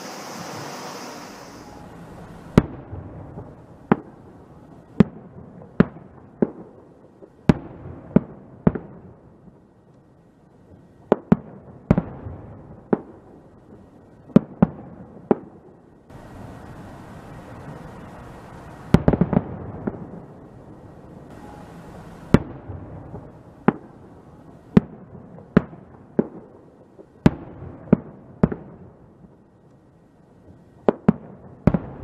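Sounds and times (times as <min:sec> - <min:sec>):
fireworks bangs with echo: 0:00.0 - 0:09.6, 0:10.7 - 0:16.7, 0:17.3 - 0:29.4, 0:30.5 - 0:32.0.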